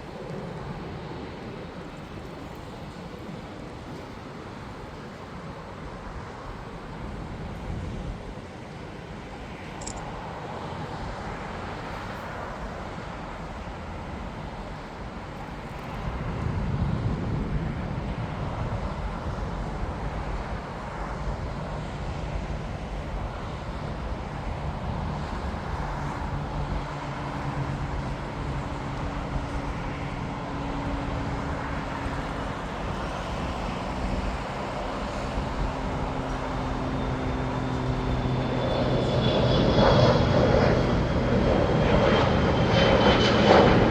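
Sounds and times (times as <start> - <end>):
aircraft engine hum: 0.0 - 43.9
jet engine rumble: 0.0 - 43.9.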